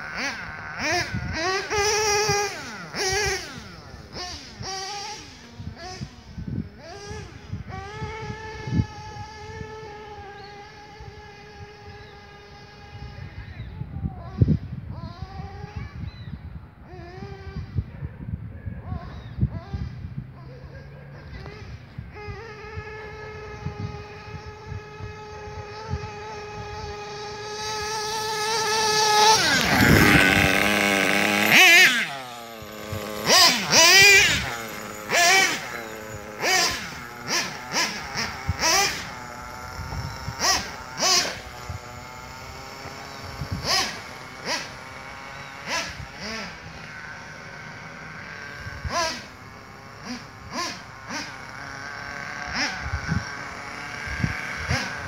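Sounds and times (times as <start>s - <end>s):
rc truck nitro engine revving: 0.0s - 55.0s.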